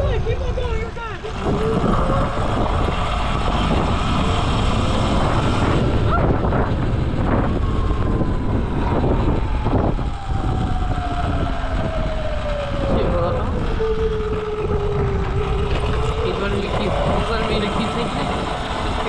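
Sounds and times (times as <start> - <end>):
electric motor whine: 0.0 - 19.0
wind rumble on microphone: 0.0 - 19.0.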